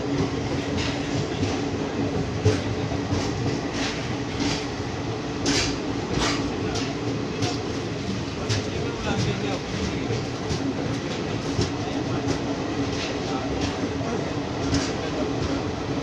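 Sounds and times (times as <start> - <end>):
train rumble: 0.0 - 16.0
train wheels clacking on rail joints: 0.1 - 15.7.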